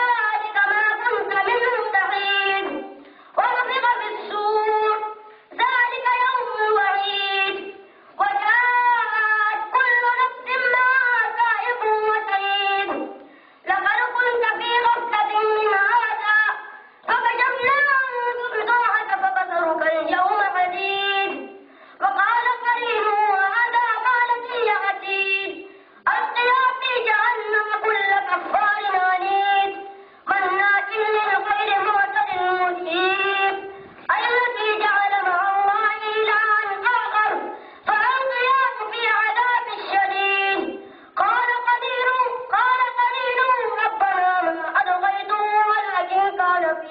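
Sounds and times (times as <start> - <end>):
child chanting: 0.0 - 46.9.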